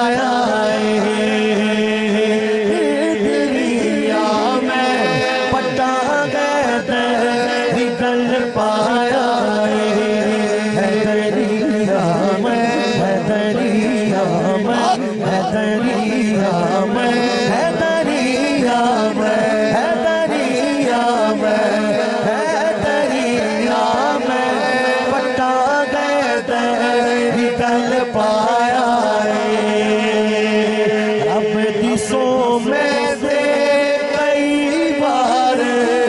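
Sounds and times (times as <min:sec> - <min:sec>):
man singing through loudspeakers: 0:00.0 - 0:36.0.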